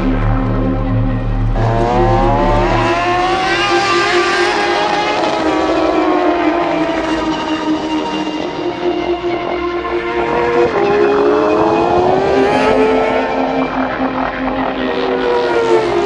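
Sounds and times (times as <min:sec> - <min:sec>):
motorcycle engine revving: 0:01.6 - 0:16.0.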